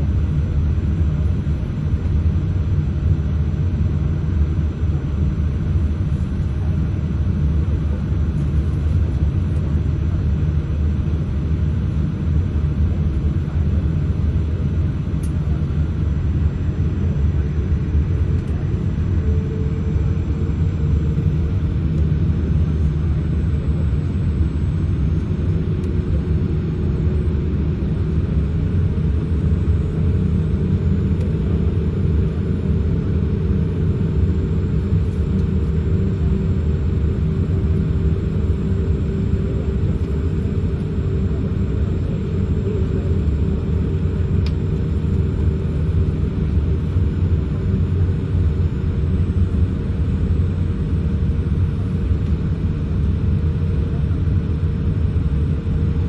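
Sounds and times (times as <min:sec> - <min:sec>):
faint steady whine: 0:00.0 - 0:56.0
jet engines idling rumble: 0:00.0 - 0:56.0.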